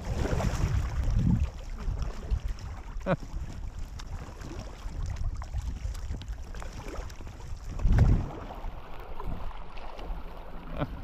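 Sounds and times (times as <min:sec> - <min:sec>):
water splashing around raft: 0:00.0 - 0:11.0
wind rumbling on microphone: 0:00.0 - 0:11.0.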